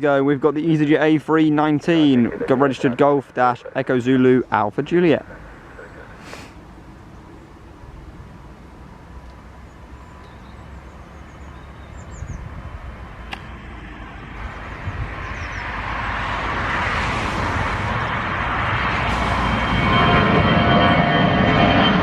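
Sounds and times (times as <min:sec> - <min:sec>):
jet engines roaring at takeoff: 0:00.2 - 0:22.0.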